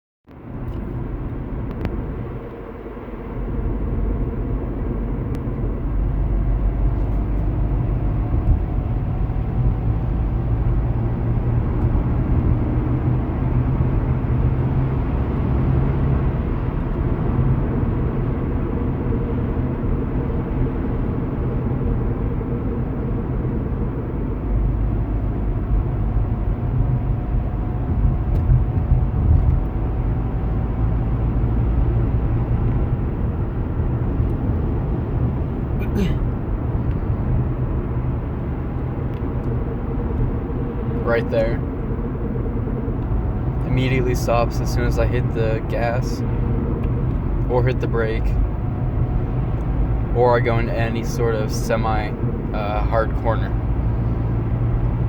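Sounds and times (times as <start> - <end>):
low road and drivetrain rumble: 0.2 - 55.0.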